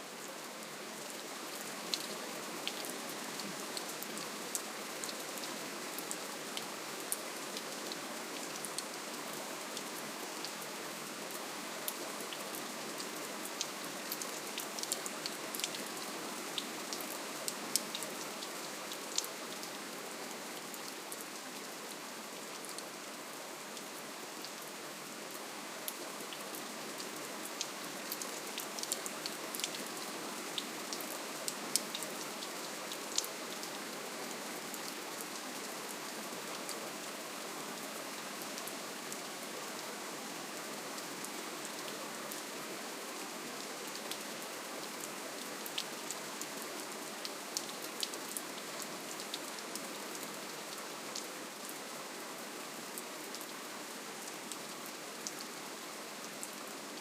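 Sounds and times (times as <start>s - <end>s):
soft steady rainfall: 0.0s - 57.0s.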